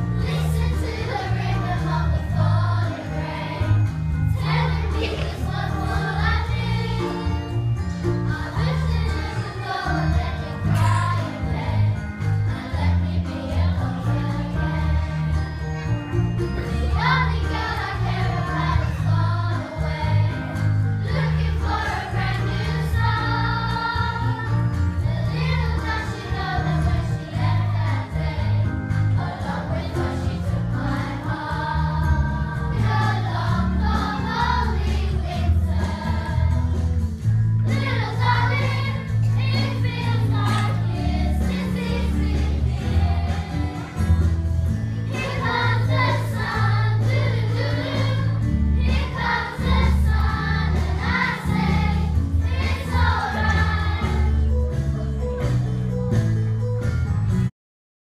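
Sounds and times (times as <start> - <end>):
children's choir singing: 0.0 - 37.0, 37.6 - 54.6
instrumental accompaniment: 0.0 - 57.5.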